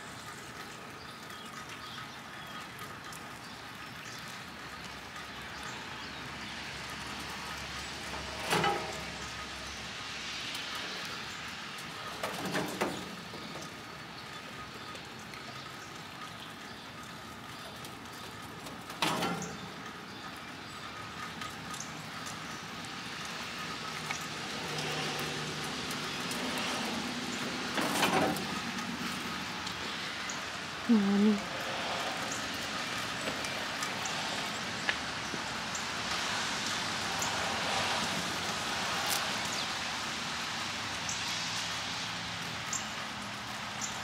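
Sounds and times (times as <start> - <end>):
rain on wet street: 0.0 - 44.0.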